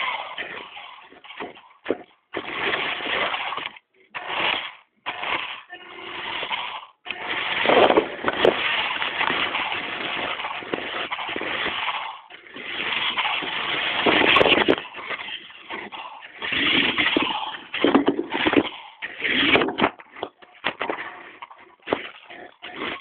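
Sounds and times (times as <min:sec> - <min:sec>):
toy truck electric motor: 0:00.0 - 0:23.0.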